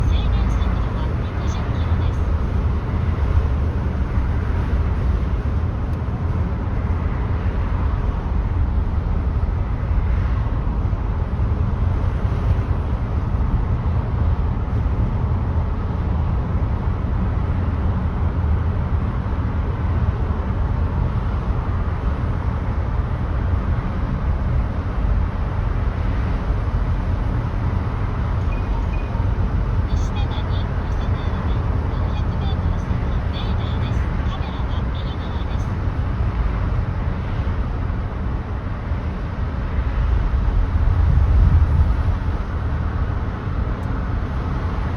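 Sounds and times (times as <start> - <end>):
car road and wind noise: 0.0 - 44.9.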